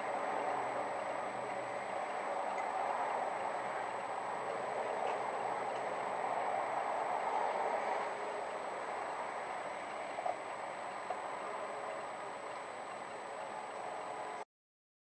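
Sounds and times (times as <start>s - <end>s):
faint ticks: 0.0s - 14.4s
thin high whine: 0.0s - 14.5s.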